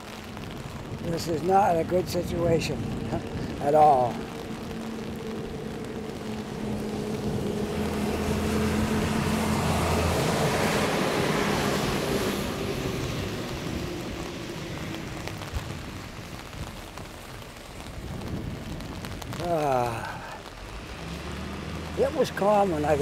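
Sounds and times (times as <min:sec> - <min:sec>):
wind buffeting microphone: 0:00.0 - 0:20.0
rain on an umbrella: 0:00.0 - 0:23.0.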